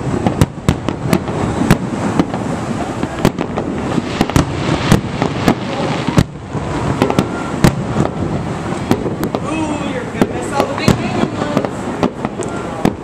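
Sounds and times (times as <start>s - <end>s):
fireworks bangs: 0.0s - 13.0s
fireworks crackle and rumble: 0.0s - 13.0s.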